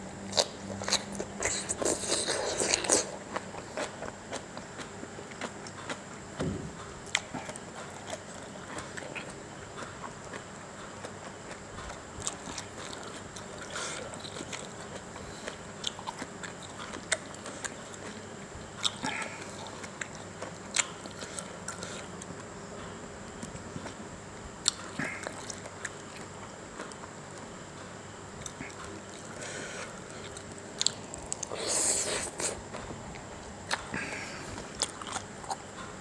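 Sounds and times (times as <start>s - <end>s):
person chewing food: 0.1s - 24.0s, 24.6s - 36.0s.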